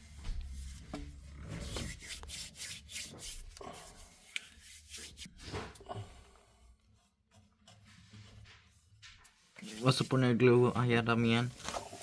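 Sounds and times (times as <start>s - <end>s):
rubbing and scraping strokes: 0.0s - 5.8s, 6.8s - 12.0s.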